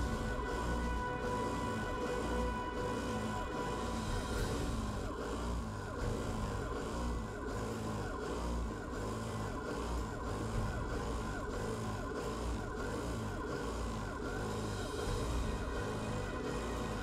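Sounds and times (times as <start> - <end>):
quilting machine stitching: 0.0 - 17.0.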